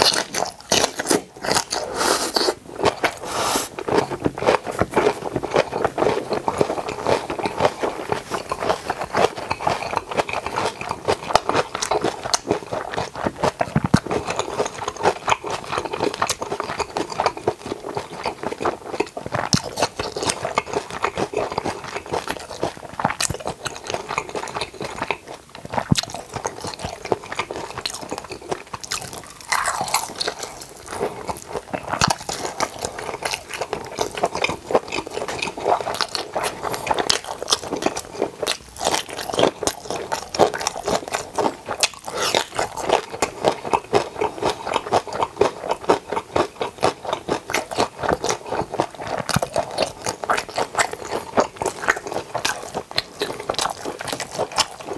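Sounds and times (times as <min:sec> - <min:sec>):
close-miked chewing: 0:00.0 - 0:54.9.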